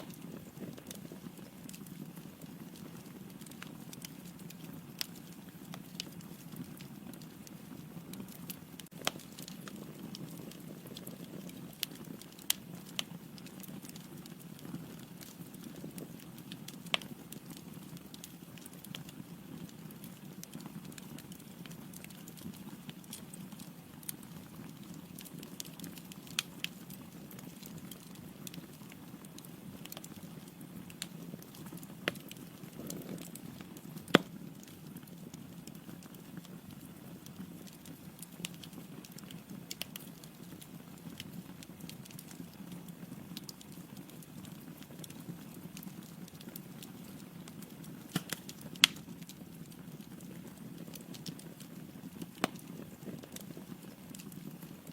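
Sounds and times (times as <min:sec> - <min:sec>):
flames rushing in fireplace: 0:00.0 - 0:54.9
logs crackling and popping: 0:00.0 - 0:54.9.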